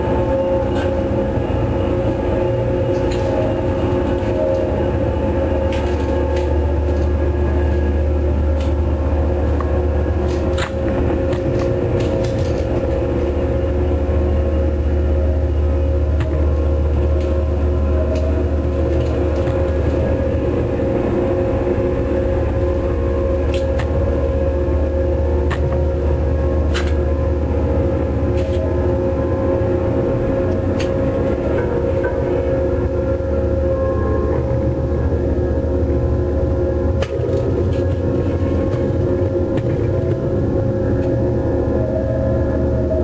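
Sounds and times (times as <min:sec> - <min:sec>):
machinery rumbling and humming: 0:00.0 - 0:43.0.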